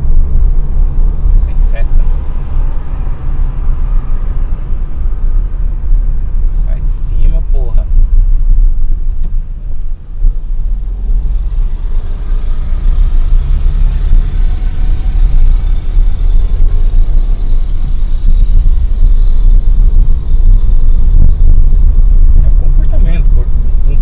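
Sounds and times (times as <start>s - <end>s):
car engine and road rumble: 0.0s - 24.0s
faint high whine: 0.0s - 24.0s.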